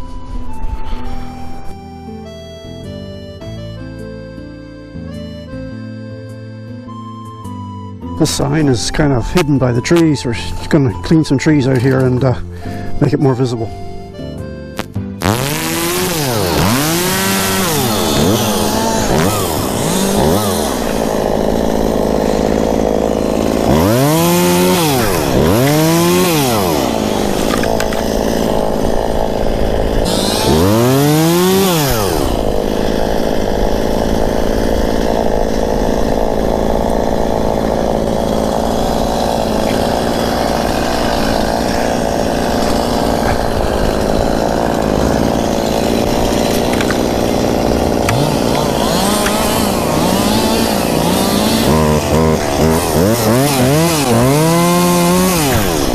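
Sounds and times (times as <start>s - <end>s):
chainsaw revving: 8.1s - 55.9s.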